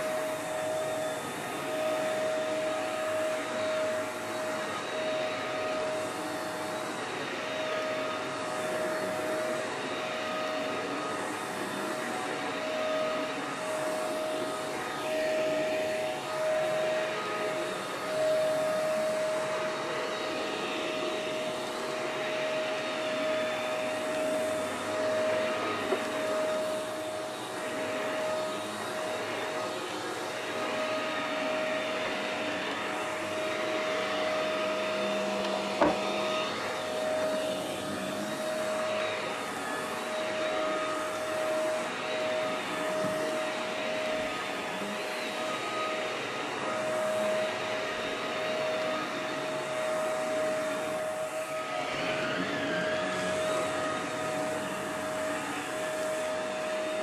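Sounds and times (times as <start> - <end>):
vacuum cleaner motor whine: 0.0 - 57.0.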